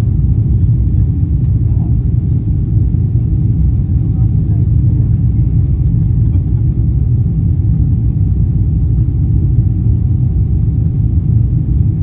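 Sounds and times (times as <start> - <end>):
jet engines and airflow rumbling: 0.0 - 12.0.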